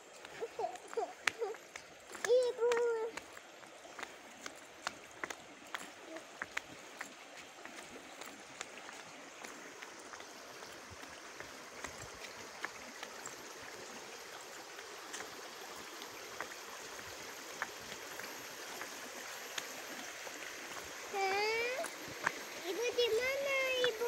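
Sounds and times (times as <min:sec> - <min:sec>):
stream water running: 0:00.0 - 0:24.0.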